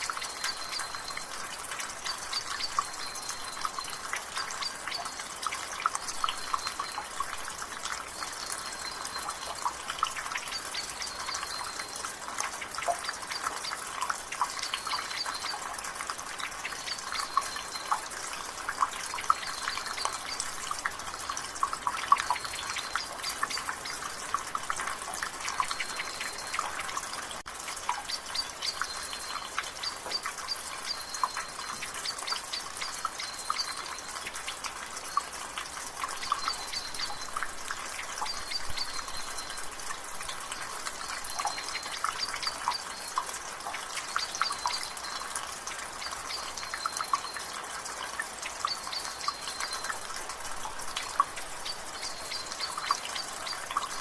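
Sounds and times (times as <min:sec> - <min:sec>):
water dripping and splashing: 0:00.0 - 0:54.0.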